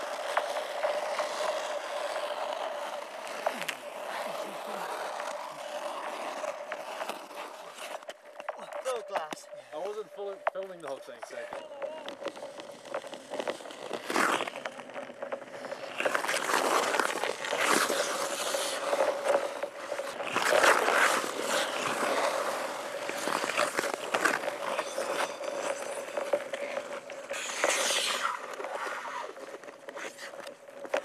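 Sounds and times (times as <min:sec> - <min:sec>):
ice skate blades scraping ice: 0:00.0 - 0:31.0.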